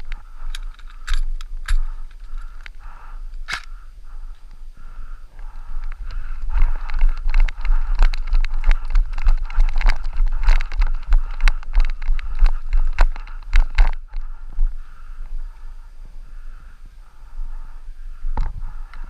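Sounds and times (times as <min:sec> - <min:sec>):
wind buffeting microphone: 0:00.0 - 0:16.4.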